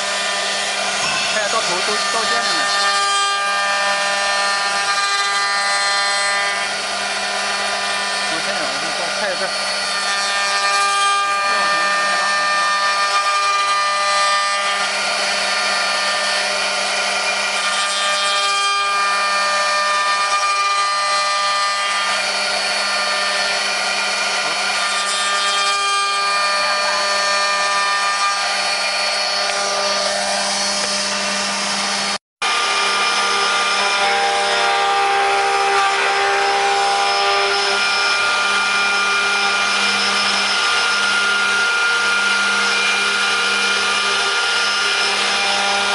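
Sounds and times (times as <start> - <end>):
cutters rasping wood: 0.0 - 45.9
router spindles whining: 0.0 - 45.9.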